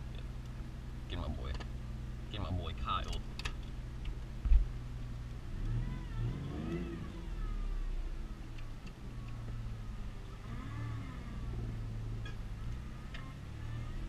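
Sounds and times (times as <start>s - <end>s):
car engine running: 0.0s - 14.0s
high engine whine: 0.0s - 14.0s.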